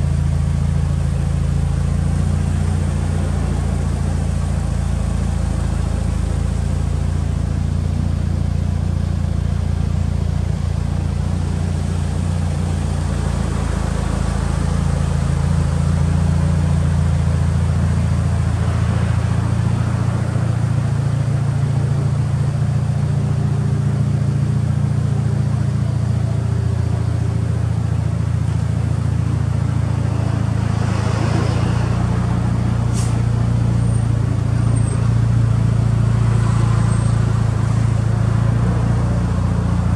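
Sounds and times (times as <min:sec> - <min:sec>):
car engine idling: 0:00.0 - 0:31.2, 0:31.8 - 0:39.9.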